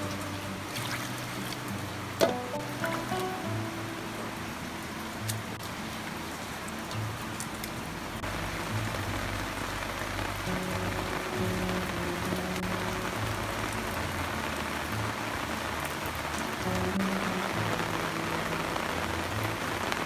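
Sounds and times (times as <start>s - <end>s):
soft low background music: 0.0s - 20.0s
steady rain: 0.0s - 20.0s.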